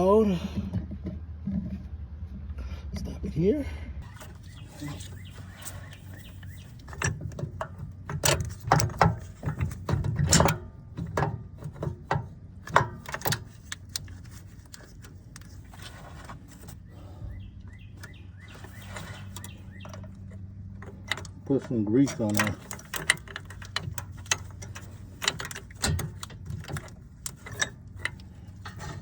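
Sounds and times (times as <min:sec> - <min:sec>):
tools clicking and knocking: 0:04.0 - 0:16.8, 0:17.7 - 0:29.0.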